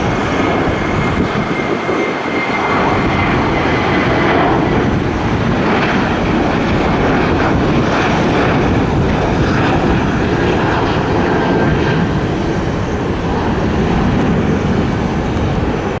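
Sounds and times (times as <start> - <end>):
airplane engines: 0.0 - 16.0.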